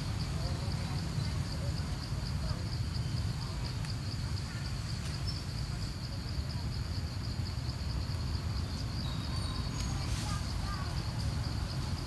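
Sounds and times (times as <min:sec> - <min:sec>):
continuous low rumble: 0:00.0 - 0:12.0
insects chirping in pulsed trill: 0:00.0 - 0:12.0.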